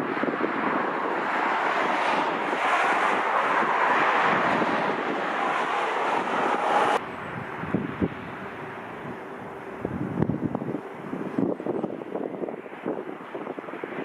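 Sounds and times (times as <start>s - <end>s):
jet engines roaring: 0.0s - 14.0s
wind buffeting microphone: 0.0s - 14.0s.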